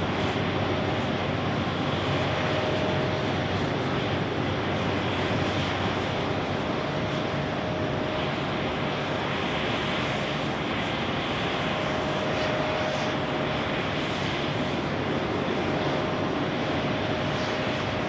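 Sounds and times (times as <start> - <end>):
faint steady whine: 0.0 - 18.0
jet engines running: 0.0 - 18.0.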